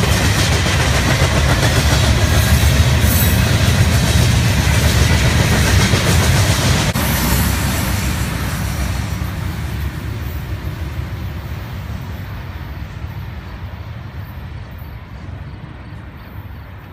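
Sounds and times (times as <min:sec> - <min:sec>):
freight train rolling past: 0:00.0 - 0:16.9.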